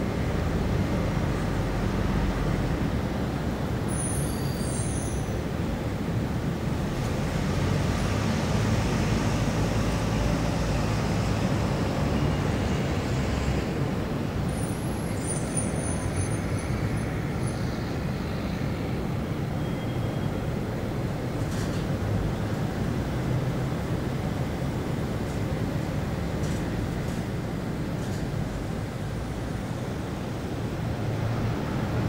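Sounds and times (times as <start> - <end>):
city road traffic: 0.0 - 32.0.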